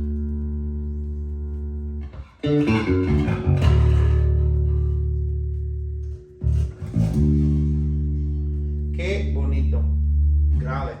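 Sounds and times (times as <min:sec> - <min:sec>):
electric bass playing: 0:00.0 - 0:11.0.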